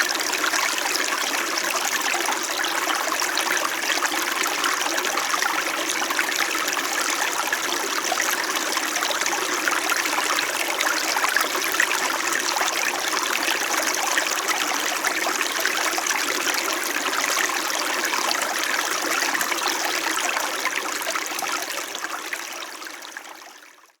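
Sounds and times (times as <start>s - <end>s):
stream babbling and trickling: 0.0s - 24.0s.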